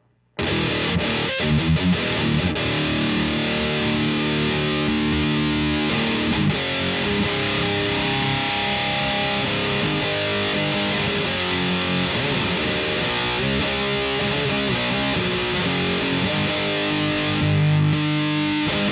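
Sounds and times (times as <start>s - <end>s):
distorted electric guitar: 0.0s - 18.9s.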